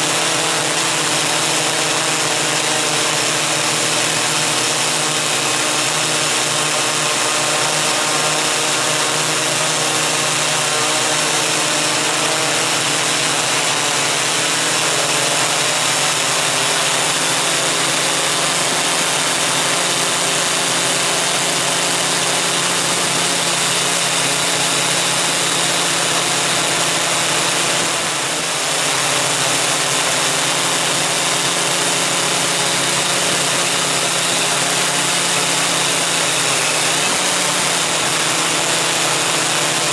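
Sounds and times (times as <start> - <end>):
drone motors and propellers: 0.0 - 39.9.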